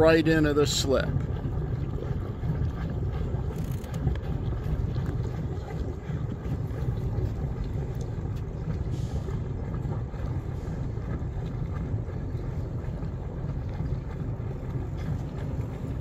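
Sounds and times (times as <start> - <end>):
boat engines idling: 0.0 - 16.0.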